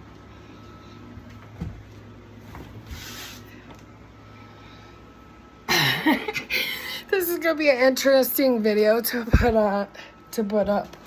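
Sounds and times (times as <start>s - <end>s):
room fan humming: 0.0s - 11.0s.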